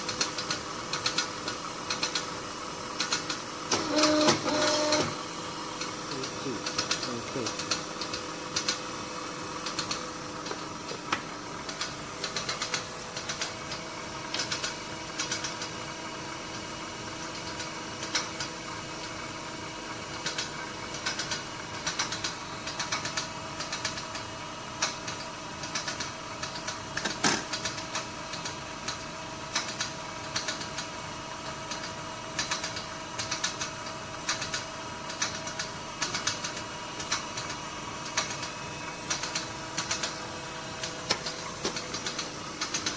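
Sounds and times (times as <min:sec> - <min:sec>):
electrical hum of machinery: 0:00.0 - 0:42.9.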